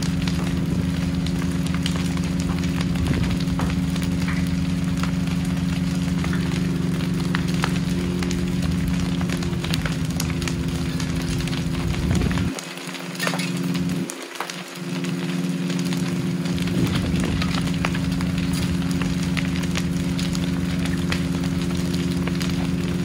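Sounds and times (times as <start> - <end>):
fire crackling: 0.0 - 23.0
low engine hum: 0.0 - 23.0.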